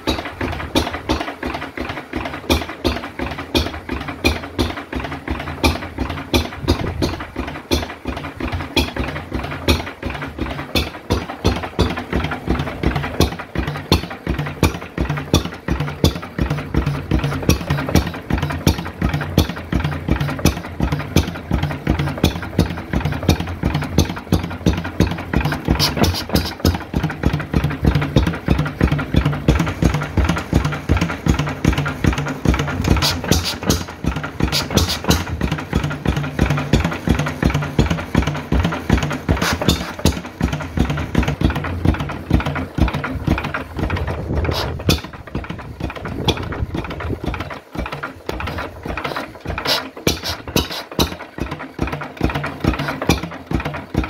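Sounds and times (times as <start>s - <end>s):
stationary engine running: 0.0s - 54.0s
valve gear clatter: 2.2s - 54.0s.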